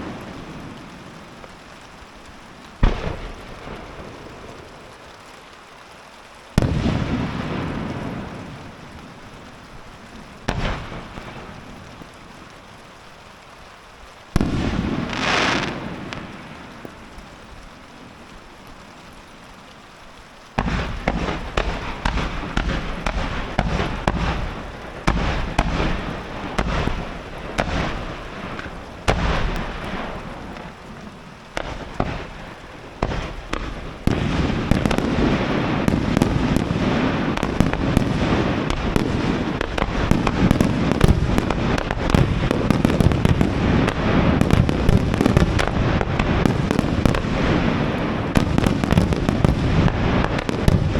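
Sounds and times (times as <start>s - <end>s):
rapid firework bangs: 2.8s - 5.1s, 6.6s - 12.4s, 14.3s - 17.8s, 20.5s - 50.9s.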